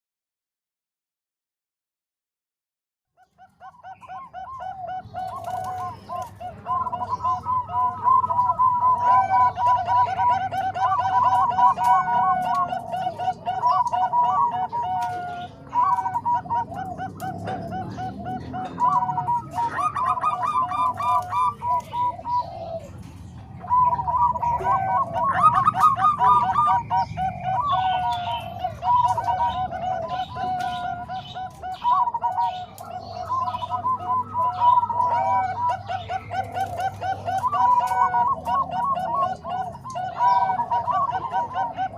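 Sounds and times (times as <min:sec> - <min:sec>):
doves cooing: 0:03.2 - 0:41.9.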